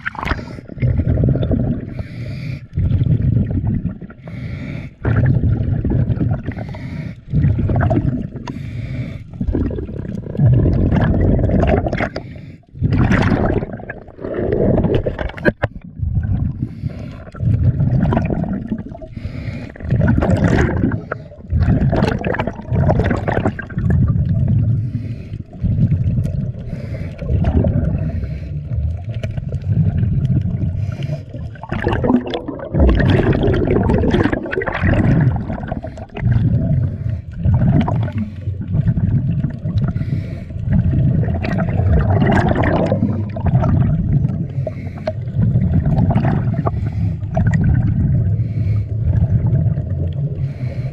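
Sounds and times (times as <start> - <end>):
diver's bubbles: 0.0 - 50.9
muffled underwater rumbling: 0.0 - 50.9.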